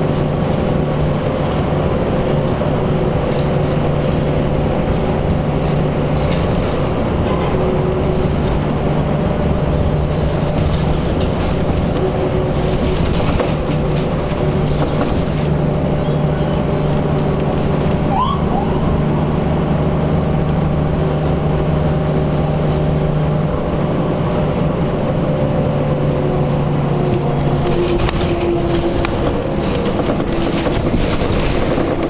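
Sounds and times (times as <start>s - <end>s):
heavy vehicle engines droning: 0.0s - 32.0s
traffic noise: 0.0s - 32.0s.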